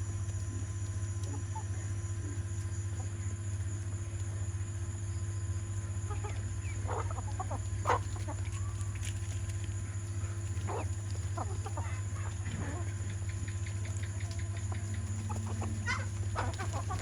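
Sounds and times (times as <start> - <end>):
chickens clucking: 0.2 - 17.0.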